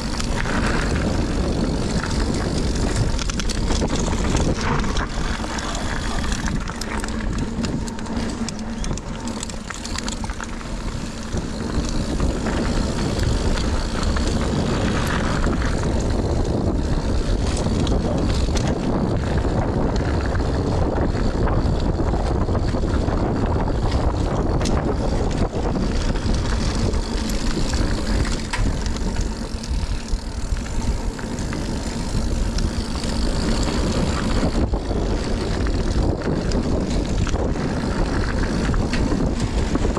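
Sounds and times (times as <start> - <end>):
bike rattles and clicks: 0.0 - 39.9
tyres rolling on dirt: 0.0 - 39.9
wind on microphone: 0.0 - 39.9.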